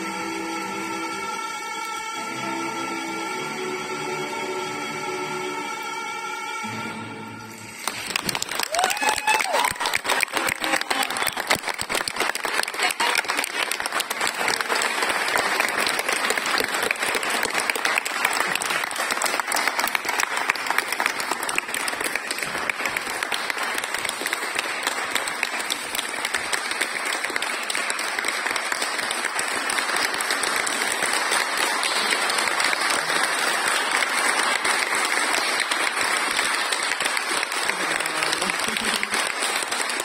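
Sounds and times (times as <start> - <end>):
audience applauding: 7.6 - 40.0.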